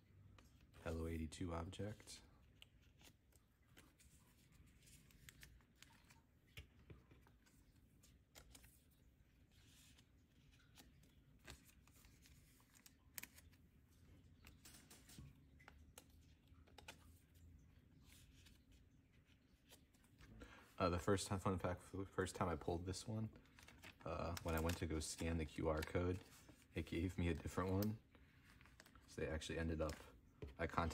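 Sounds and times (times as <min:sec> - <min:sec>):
faint plastic rustles: 0:00.1 - 0:30.9.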